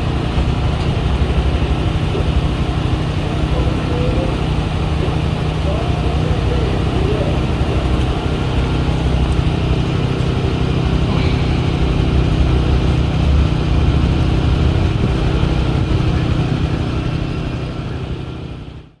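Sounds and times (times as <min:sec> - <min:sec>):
motor engines idling: 0:00.0 - 0:19.0.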